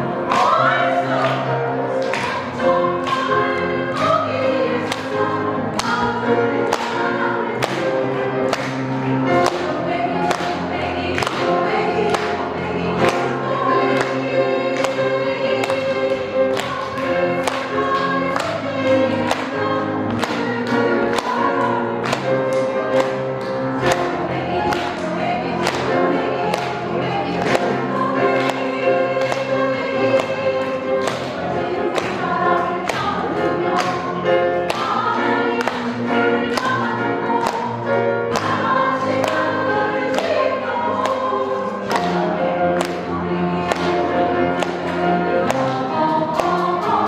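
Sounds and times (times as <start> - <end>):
women's ensemble singing: 0.0 - 47.0.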